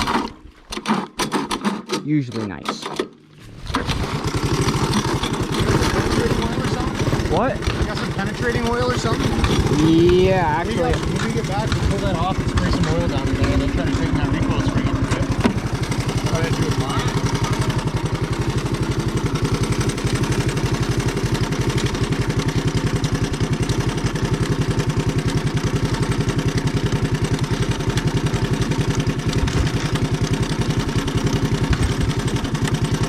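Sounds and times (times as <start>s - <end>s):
atv engine idling: 3.7s - 33.0s.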